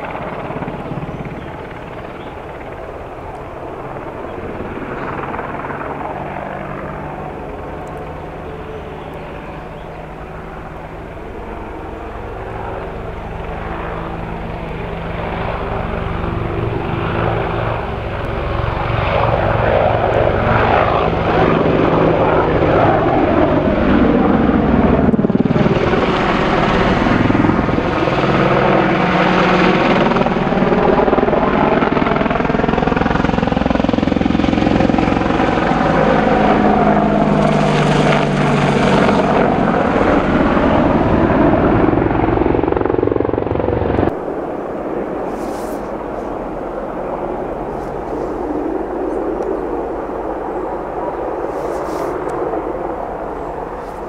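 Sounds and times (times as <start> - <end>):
helicopter rotor and turbines: 0.0 - 54.0.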